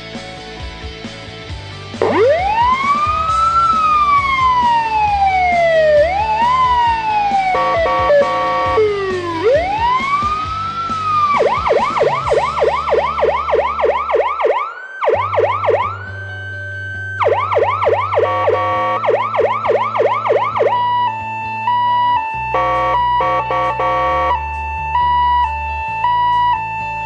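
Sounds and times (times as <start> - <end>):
electronic siren wailing and yelping: 2.0 - 16.2, 17.0 - 27.0.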